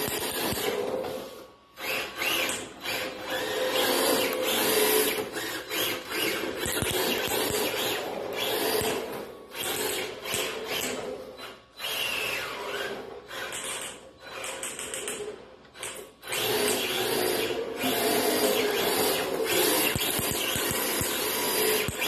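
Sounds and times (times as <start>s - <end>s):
rc car motor whining: 0.0s - 15.0s, 15.9s - 22.0s.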